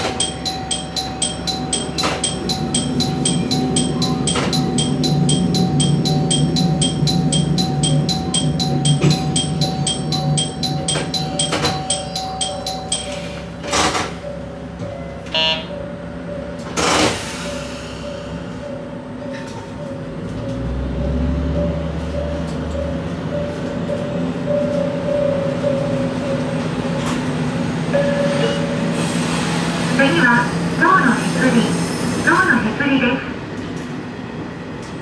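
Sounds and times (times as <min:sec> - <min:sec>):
diesel railcar engine drone: 0:00.0 - 0:35.0.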